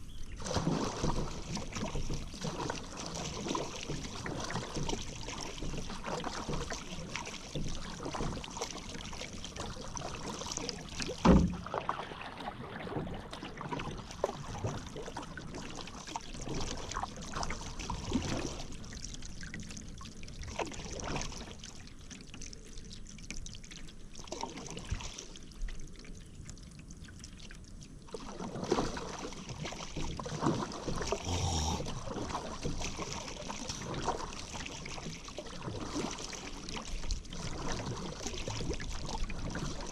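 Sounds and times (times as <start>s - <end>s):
paddle strokes splashing in water: 0.1s - 22.6s, 23.3s - 25.7s, 27.2s - 39.9s.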